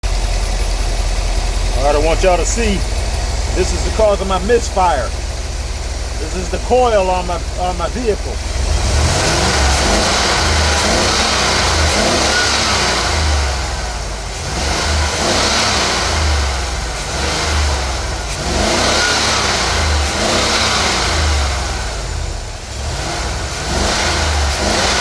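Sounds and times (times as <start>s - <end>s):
car engine misfiring: 0.0s - 25.0s.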